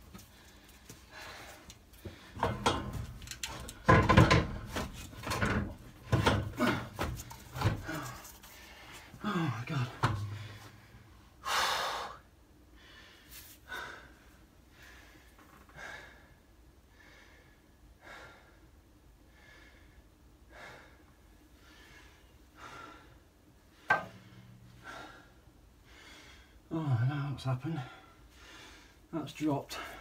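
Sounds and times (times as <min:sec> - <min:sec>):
man breathing hard and gasping: 0:00.2 - 0:03.1, 0:06.1 - 0:26.7, 0:27.8 - 0:29.1.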